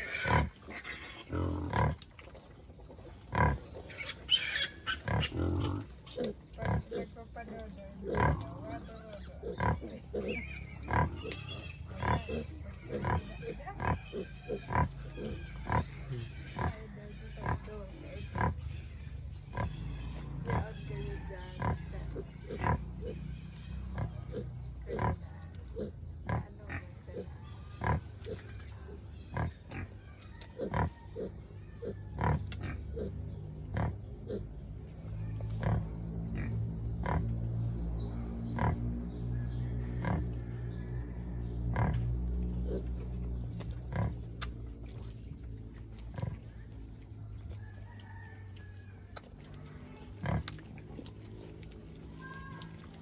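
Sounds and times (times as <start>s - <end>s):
pigs grunting: 0.0s - 40.8s, 41.6s - 47.2s, 49.4s - 53.0s.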